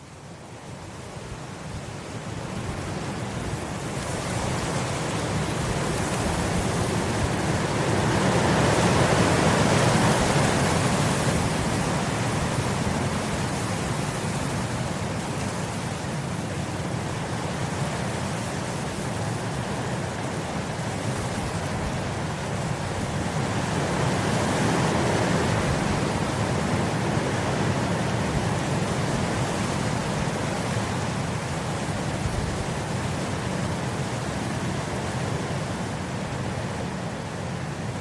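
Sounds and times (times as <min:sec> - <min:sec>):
wind blowing across grass: 0:00.0 - 0:38.0.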